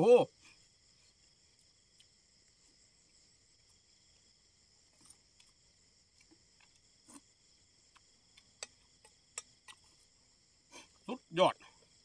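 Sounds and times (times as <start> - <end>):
crickets chirping at night: 0.0 - 12.0.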